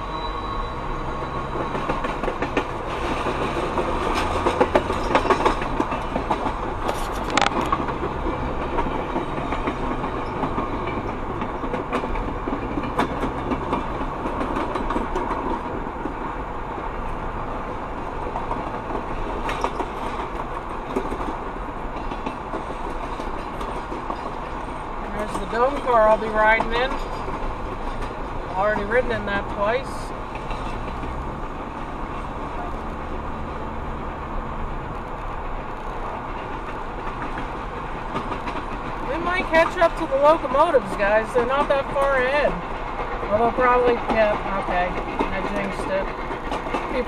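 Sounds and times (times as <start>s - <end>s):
car road rumble: 0.0s - 47.0s
train wheels clicking over rail joints: 0.8s - 47.0s.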